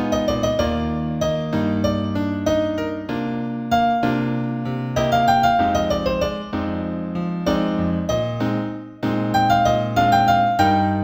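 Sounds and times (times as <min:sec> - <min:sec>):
slow solo piano piece: 0:00.0 - 0:11.0.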